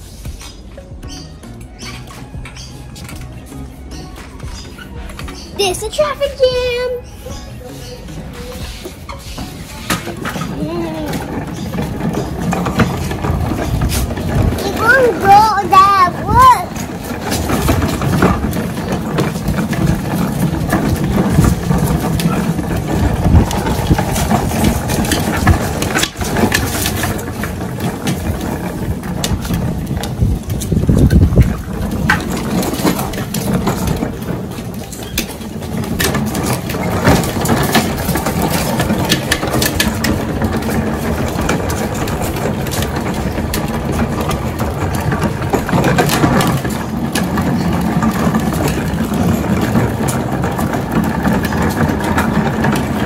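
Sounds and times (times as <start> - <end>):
plastic toy wheels rolling: 0.0 - 53.0.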